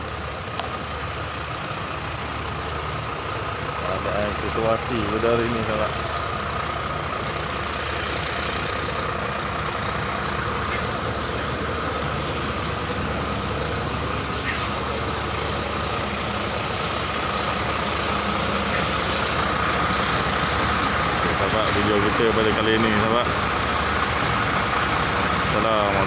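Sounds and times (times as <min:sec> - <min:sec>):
engine running with high whine: 0:00.0 - 0:26.0.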